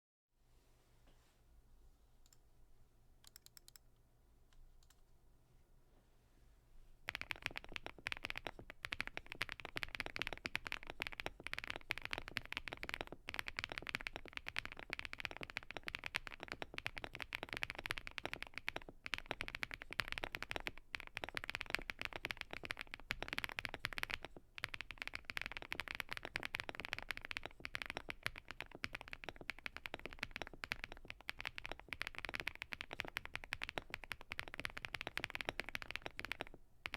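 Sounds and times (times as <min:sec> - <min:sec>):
fast typing on mechanical keyboard: 0:07.1 - 0:36.9.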